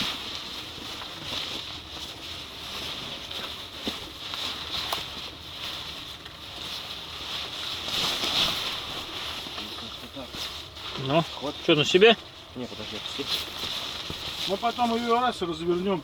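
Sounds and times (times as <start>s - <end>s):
bedding rustling: 0.0s - 16.0s.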